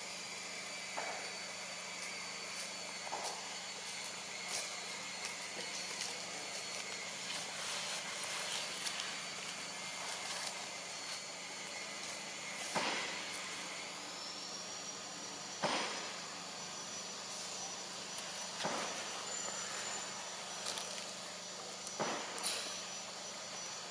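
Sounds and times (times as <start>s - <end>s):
continuous forest hiss: 0.0s - 23.9s.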